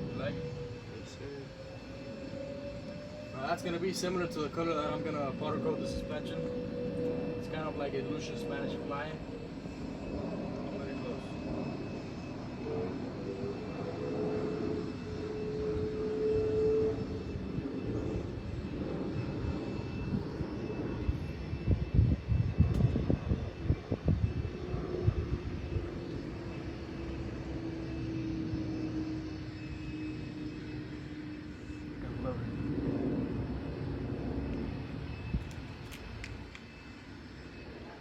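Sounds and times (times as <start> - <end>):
engine-like drone: 0.0 - 38.0.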